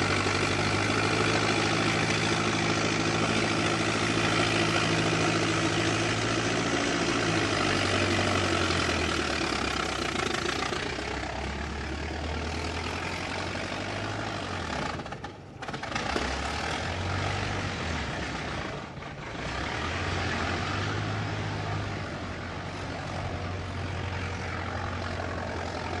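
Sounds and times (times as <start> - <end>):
old car engine running: 0.0 - 26.0.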